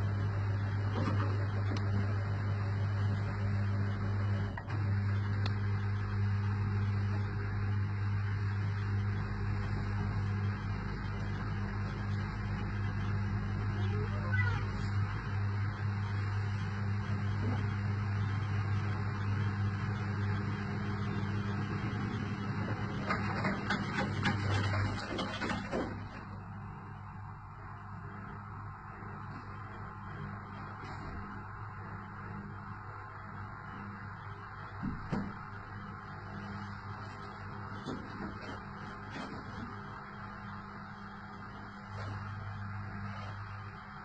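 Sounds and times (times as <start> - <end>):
washing machine electrical hum: 0.0 - 44.0.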